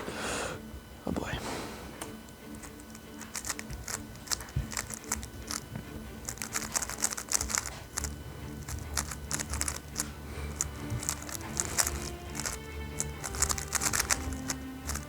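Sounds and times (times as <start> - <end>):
background music: 0.0 - 15.0
speed cube clicking: 2.3 - 15.0.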